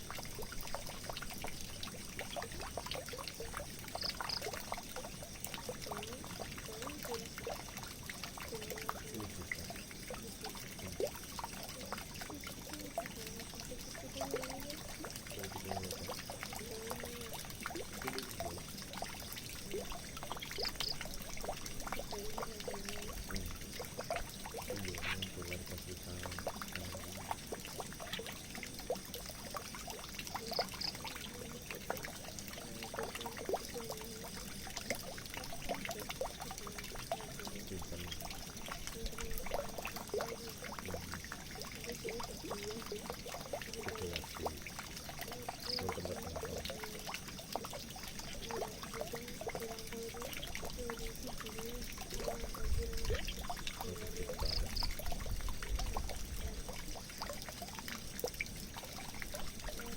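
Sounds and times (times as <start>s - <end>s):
water pouring into a drain: 0.0s - 59.9s.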